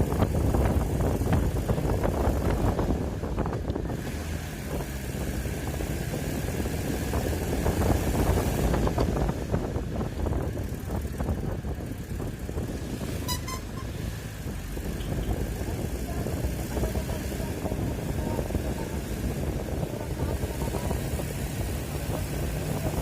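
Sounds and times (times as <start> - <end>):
vehicle engine and tyre rumble: 0.0 - 23.0
wind noise: 0.0 - 23.0.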